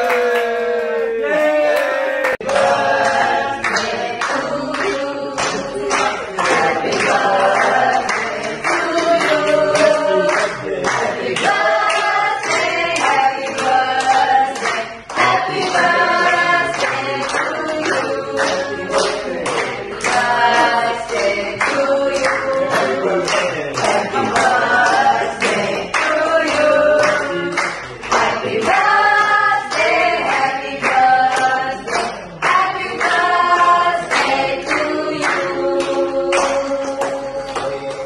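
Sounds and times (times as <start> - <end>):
group singing: 0.0 - 38.0
people clapping in time: 0.0 - 38.0
single voice singing: 0.0 - 38.0.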